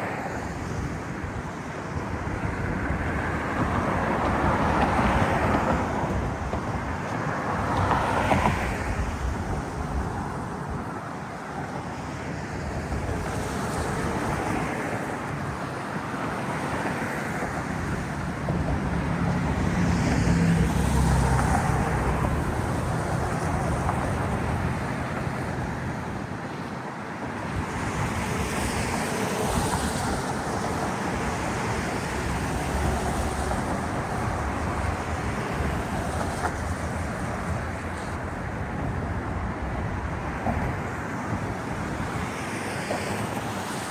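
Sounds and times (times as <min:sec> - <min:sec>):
city traffic noise: 0:00.0 - 0:43.9
wind on microphone: 0:00.3 - 0:42.5.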